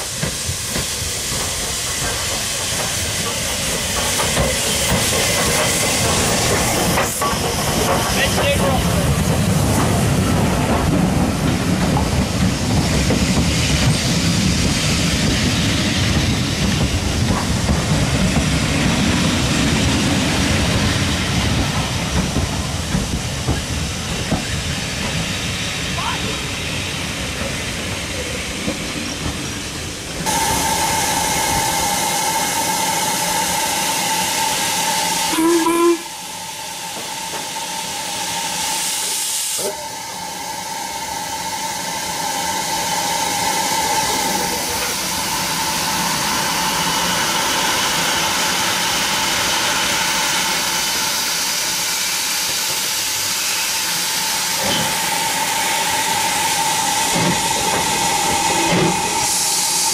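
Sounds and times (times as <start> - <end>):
railway coaches rumbling past: 0.0 - 59.9
steam hissing: 0.0 - 59.9.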